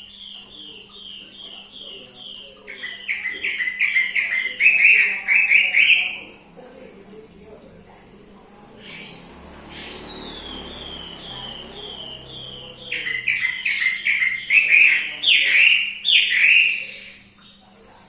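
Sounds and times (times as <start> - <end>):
bird whistling: 0.0 - 6.3, 8.8 - 17.2.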